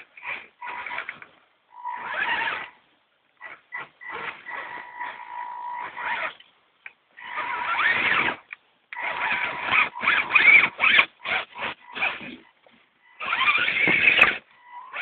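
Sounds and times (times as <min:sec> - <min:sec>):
toy car electric motor whining: 0:00.0 - 0:02.8, 0:03.4 - 0:06.4, 0:07.2 - 0:12.4, 0:13.0 - 0:15.0.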